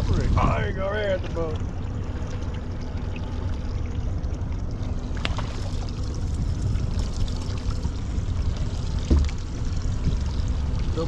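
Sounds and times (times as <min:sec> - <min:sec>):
water pouring and splashing: 0:00.0 - 0:11.0
wind rumble on microphone: 0:00.0 - 0:11.0.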